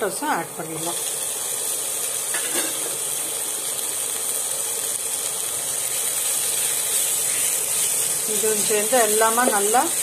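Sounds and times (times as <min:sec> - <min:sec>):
onions frying in a pan: 0:00.0 - 0:10.0.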